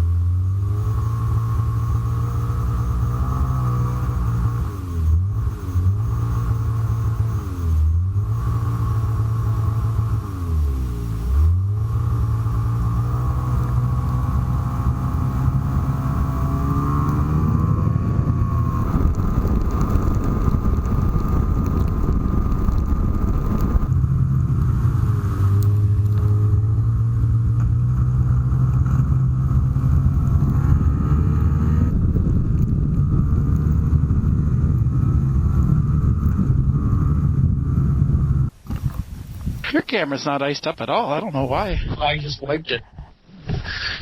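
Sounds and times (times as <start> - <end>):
snowmobile engine revving: 0.0 - 38.5
track and wind rush: 0.4 - 39.7.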